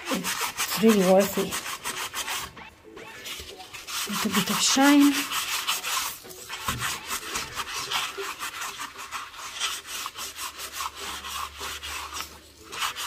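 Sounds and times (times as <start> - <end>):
sandpaper rubbing on metal: 0.0 - 13.0.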